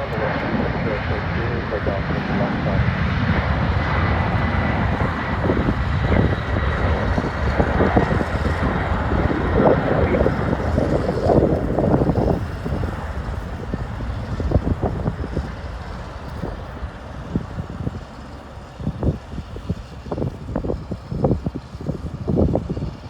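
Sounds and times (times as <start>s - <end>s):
jet aircraft rumble: 0.0s - 23.0s
wind buffeting microphone: 0.0s - 23.0s.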